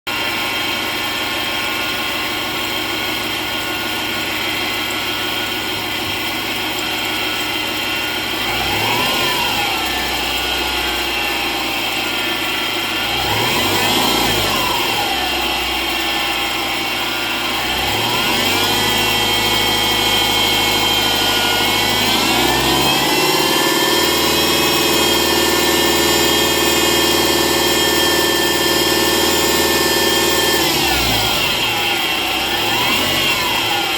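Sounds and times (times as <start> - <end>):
car engine running: 0.1 - 33.9
high-pitched metallic pulley whine: 0.1 - 33.9.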